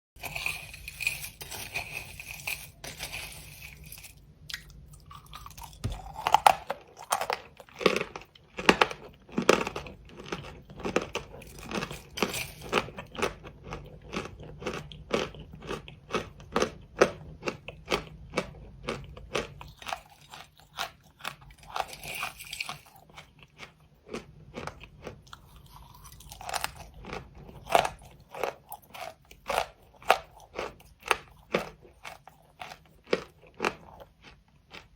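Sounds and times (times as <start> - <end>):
crisp crunching and chewing: 0.2 - 34.9.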